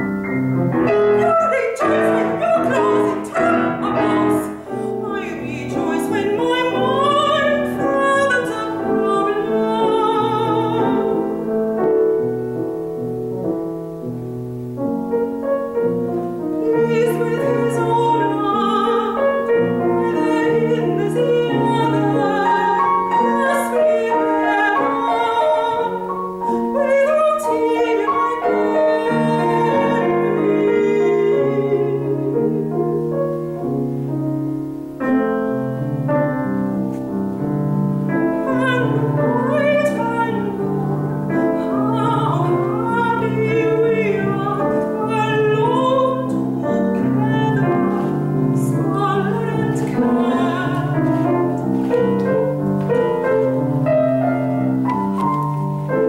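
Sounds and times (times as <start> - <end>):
grand piano accompaniment: 0.0 - 56.0
soprano singing with vibrato: 0.8 - 12.1, 16.3 - 33.1, 38.0 - 56.0.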